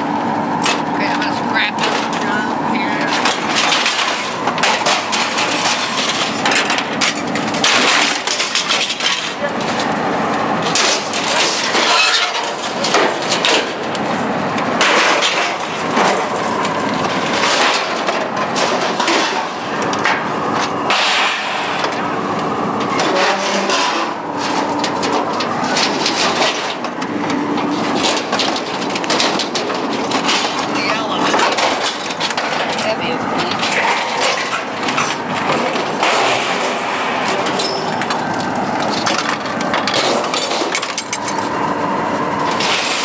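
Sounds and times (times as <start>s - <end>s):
scrap metal clattering and banging: 0.0s - 43.0s.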